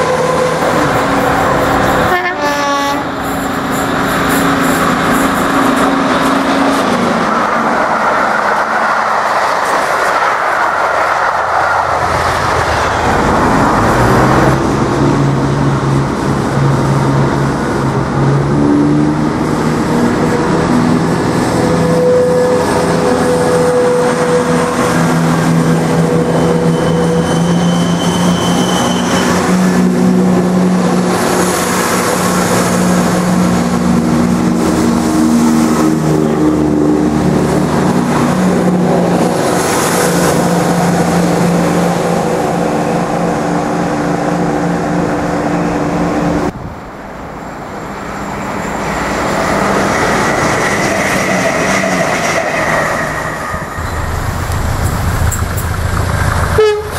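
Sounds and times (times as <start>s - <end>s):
diesel train drawing in: 0.0s - 56.9s
diesel train pulling away: 0.0s - 56.9s.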